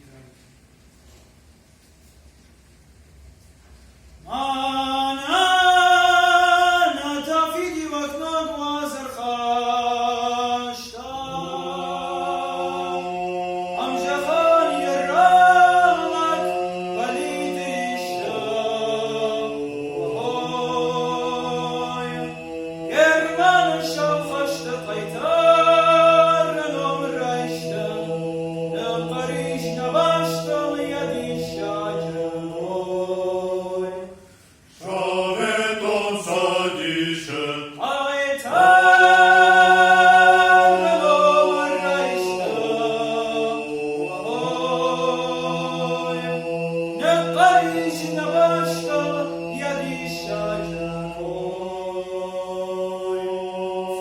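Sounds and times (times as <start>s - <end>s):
held vocal drone: 4.2s - 54.0s
lead voice singing: 4.3s - 34.2s, 34.8s - 54.0s.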